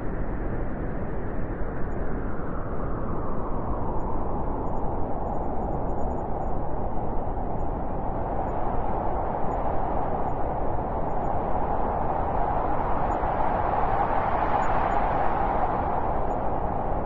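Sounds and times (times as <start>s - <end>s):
howling blizzard wind: 0.0s - 17.0s.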